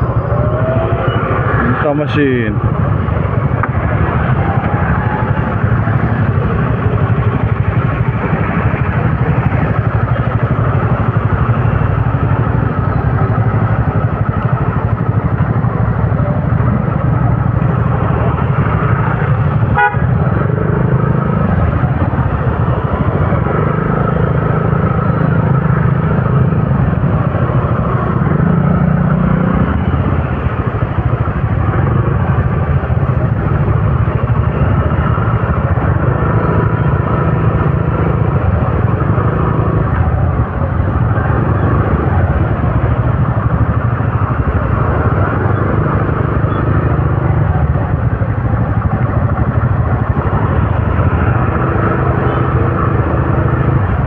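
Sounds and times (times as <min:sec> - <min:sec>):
scooter and motorcycle engines: 0:00.0 - 0:54.0.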